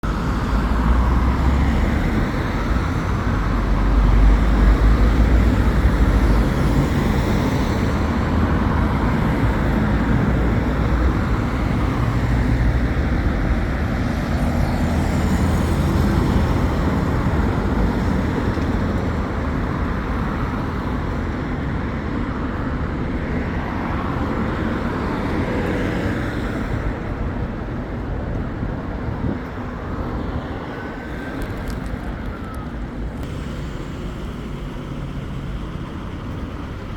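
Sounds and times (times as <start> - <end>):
road traffic passing: 0.0 - 36.9.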